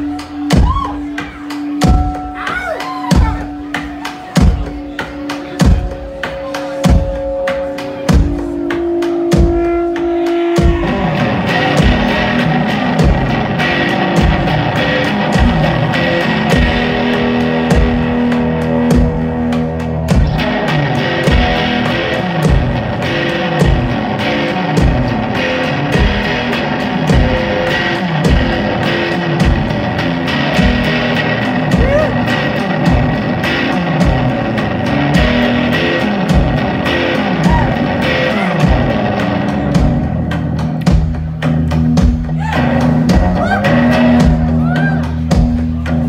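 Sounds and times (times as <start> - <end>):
electric guitar: 0.0 - 46.0.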